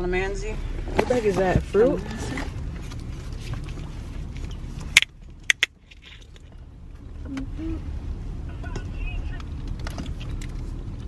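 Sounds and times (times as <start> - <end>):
low rumble inside a car: 0.0 - 11.0.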